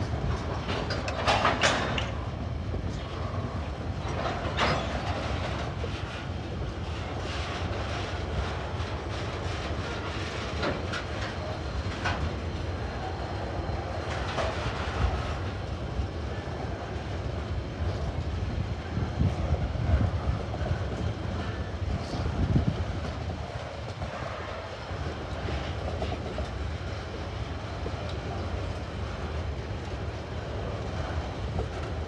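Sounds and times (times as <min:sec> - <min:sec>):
train wheels rumbling on bridge: 0:00.0 - 0:32.0.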